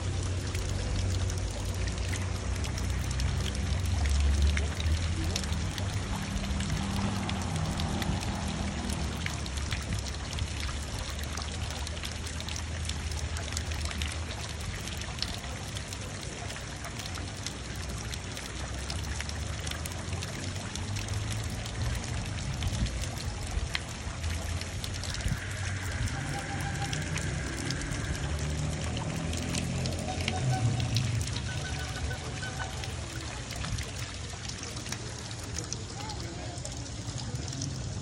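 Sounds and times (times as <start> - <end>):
fountain water splashing: 0.0 - 38.0.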